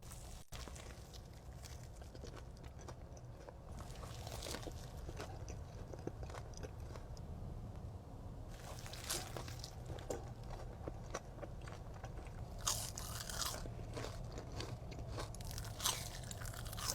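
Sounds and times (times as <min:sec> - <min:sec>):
biting and chewing sandwich: 0:00.0 - 0:07.4, 0:08.5 - 0:16.9.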